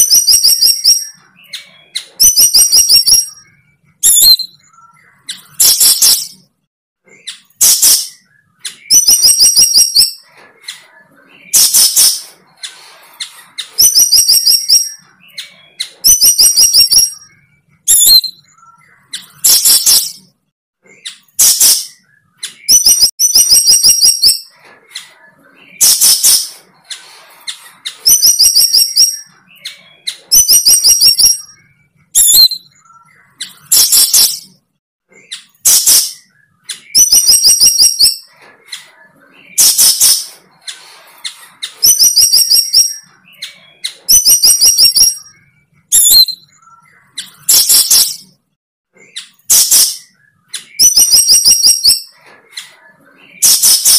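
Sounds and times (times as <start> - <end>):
bird trilling and chirping: 0.0 - 53.9.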